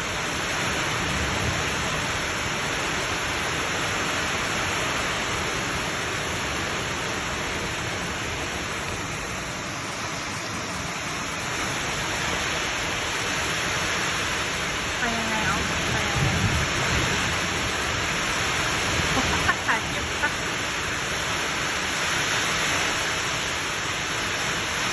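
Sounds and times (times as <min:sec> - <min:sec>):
heavy rain in strong wind: 0:00.0 - 0:24.9.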